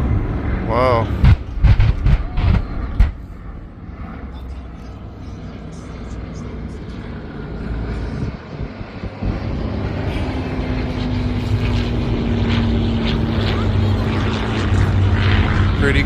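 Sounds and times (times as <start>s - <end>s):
aircraft engine passing overhead: 0.0s - 16.0s.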